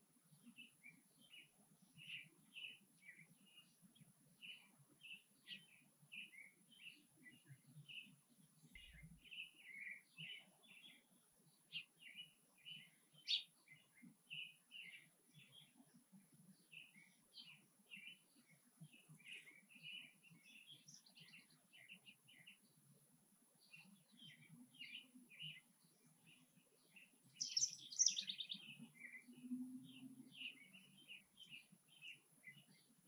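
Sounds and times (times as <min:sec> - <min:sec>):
faint bird chirping: 0:00.0 - 0:33.0.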